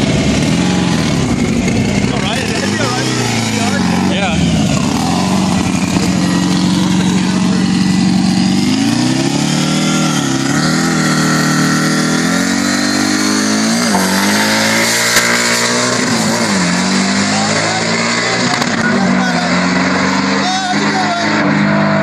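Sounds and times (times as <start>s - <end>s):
cars accelerating hard: 0.0s - 22.0s
race car engines revving: 0.0s - 22.0s.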